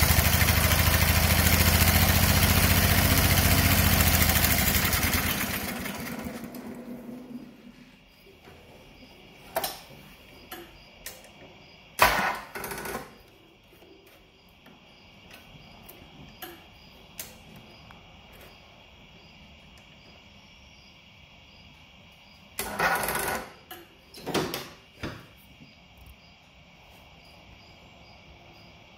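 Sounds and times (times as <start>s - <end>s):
crickets chirping: 1.6s - 28.9s.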